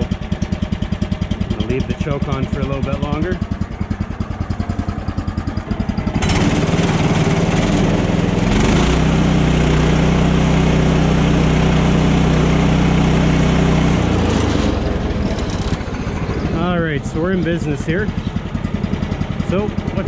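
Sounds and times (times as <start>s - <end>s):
gasoline engine revving: 0.0s - 20.0s.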